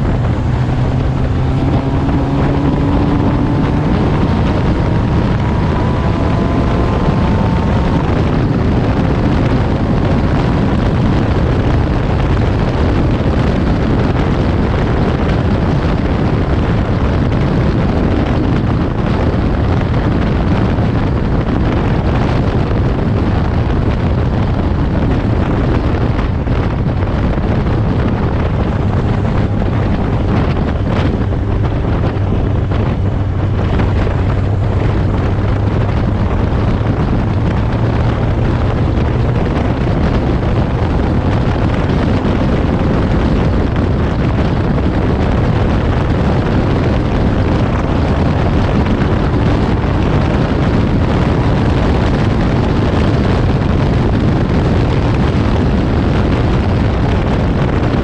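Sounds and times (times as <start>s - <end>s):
race car engine running hard: 0.0s - 58.0s
wind buffeting microphone: 0.0s - 58.0s.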